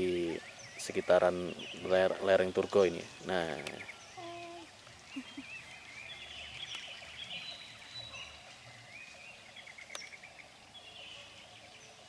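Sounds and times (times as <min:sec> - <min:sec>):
birds chirping: 0:00.0 - 0:12.0
faint background hiss: 0:00.0 - 0:12.0.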